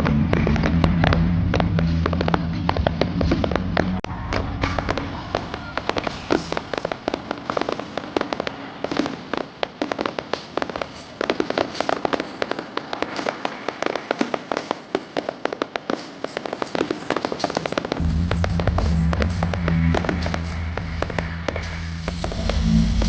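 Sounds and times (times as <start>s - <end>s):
fireworks crackling and popping: 0.0s - 23.0s.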